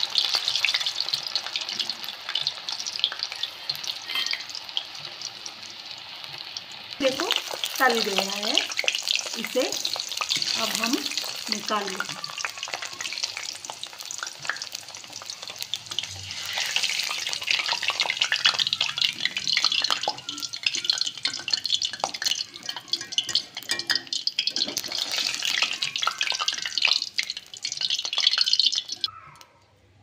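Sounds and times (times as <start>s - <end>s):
food sizzling in hot oil: 0.0s - 29.1s.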